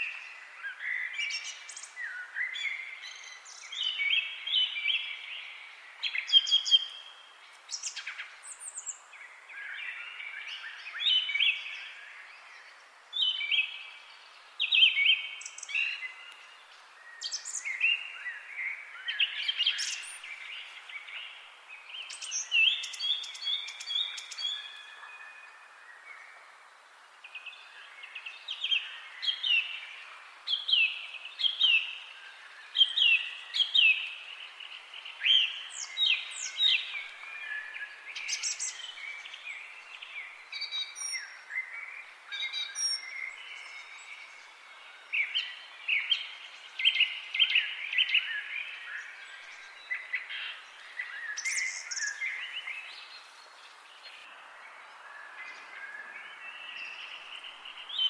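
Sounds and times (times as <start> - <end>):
songbirds chirping: 0.0 - 58.0
steady background hiss: 0.0 - 58.0.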